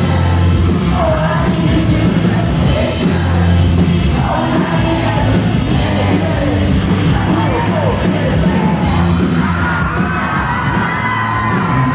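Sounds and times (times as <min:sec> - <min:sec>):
person singing: 0:00.0 - 0:10.1
crowd noise: 0:00.0 - 0:11.9
live pop-rock band: 0:00.0 - 0:11.9.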